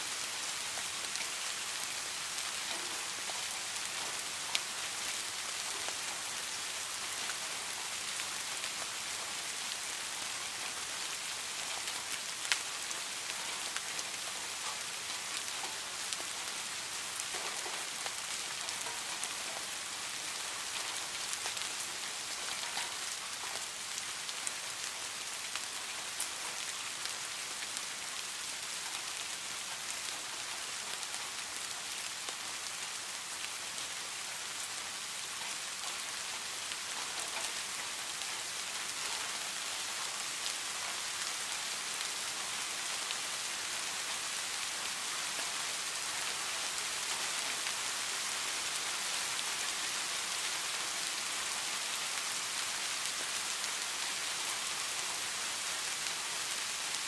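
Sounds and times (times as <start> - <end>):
rain falling on pine boughs: 0.0 - 57.0.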